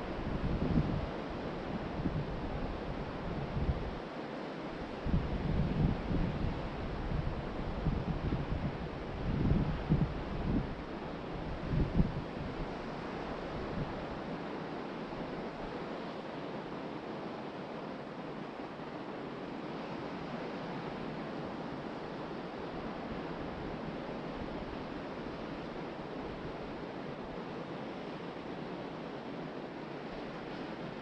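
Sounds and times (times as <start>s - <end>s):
waves breaking on a beach: 0.0s - 31.0s.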